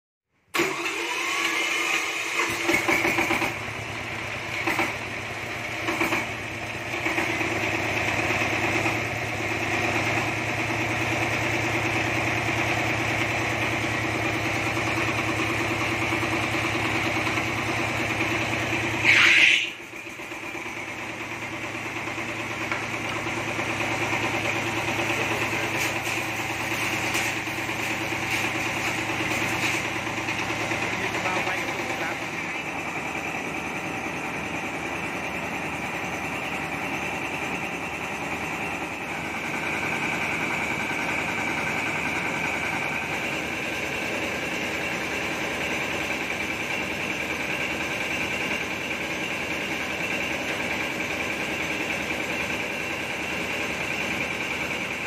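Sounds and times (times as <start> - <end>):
diesel engine running: 0.5 - 55.0
mill machinery whirring: 0.6 - 55.0.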